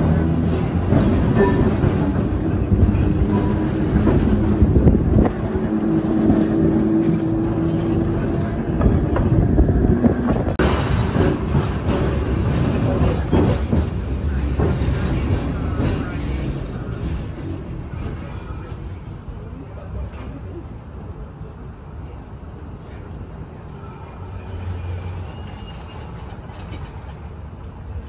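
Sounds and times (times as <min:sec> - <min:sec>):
streetcar hum: 0:00.0 - 0:28.0
streetcar rumbling on rails: 0:00.0 - 0:28.0.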